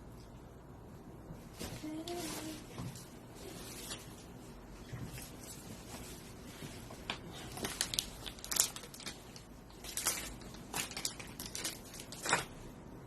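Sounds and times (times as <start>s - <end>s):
tissues crinkling and rubbing: 1.4s - 12.7s.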